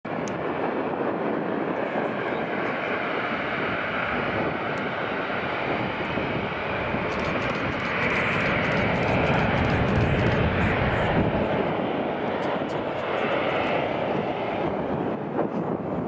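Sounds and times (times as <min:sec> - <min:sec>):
jet engine noise: 0:00.1 - 0:16.0.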